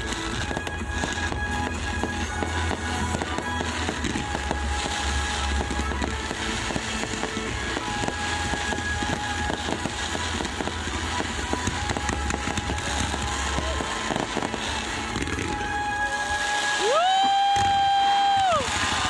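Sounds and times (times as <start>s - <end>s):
music with deep bass: 0.0s - 17.0s
fireworks crackling and popping: 0.0s - 19.0s.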